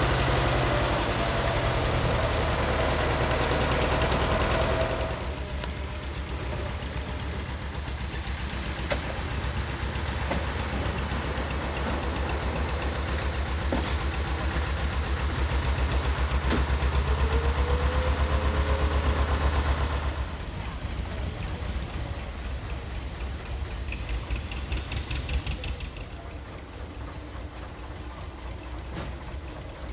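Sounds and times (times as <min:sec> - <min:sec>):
diesel engine knocking: 0:00.0 - 0:29.9.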